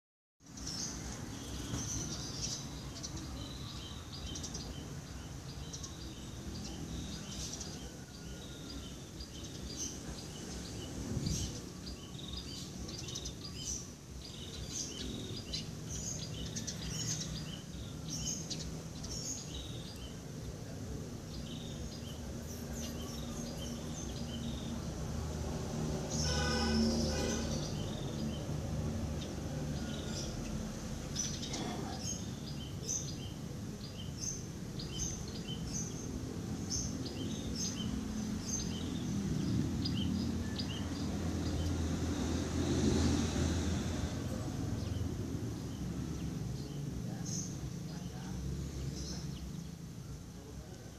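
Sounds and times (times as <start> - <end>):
birds chirping: 0.4 - 50.9.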